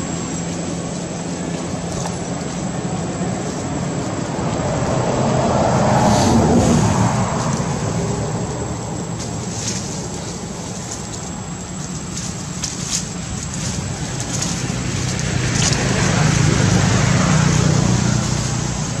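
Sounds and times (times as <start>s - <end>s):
rushing rumbling background noise: 0.0s - 19.0s.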